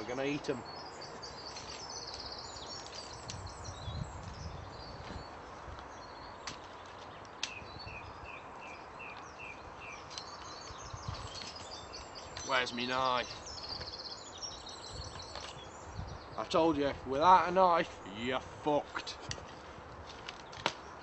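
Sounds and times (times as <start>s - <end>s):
birds singing: 0.0s - 21.0s.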